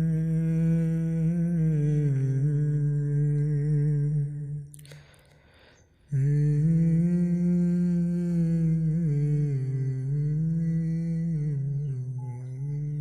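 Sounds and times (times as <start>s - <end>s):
person humming: 0.0s - 5.0s, 6.1s - 13.0s.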